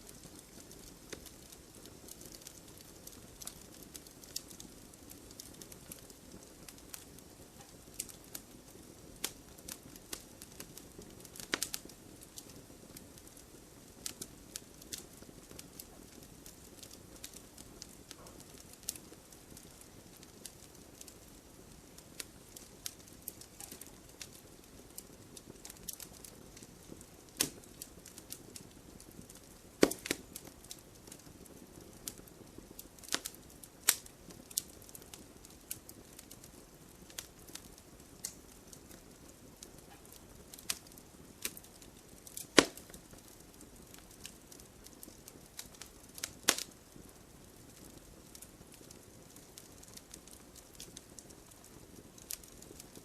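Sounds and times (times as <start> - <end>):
fire hissing: 0.0 - 53.0
firewood crackling: 0.0 - 53.0.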